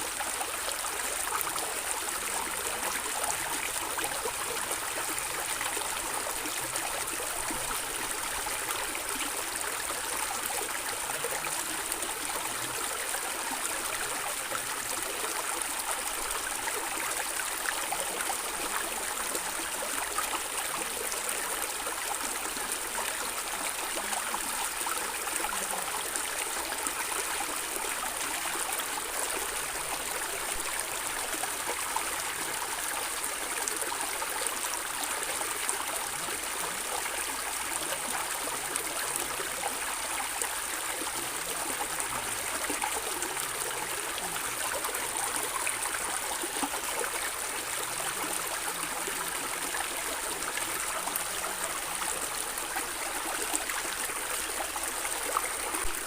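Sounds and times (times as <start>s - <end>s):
stream water running and gurgling: 0.0s - 56.0s.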